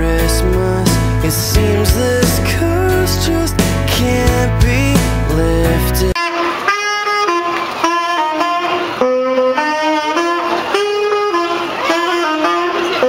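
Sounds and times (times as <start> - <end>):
instrumental music: 0.0 - 13.0.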